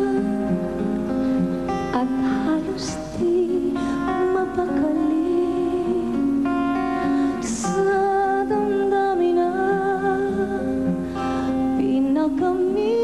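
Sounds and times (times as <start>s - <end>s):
woman singing a slow ballad: 0.0s - 13.0s.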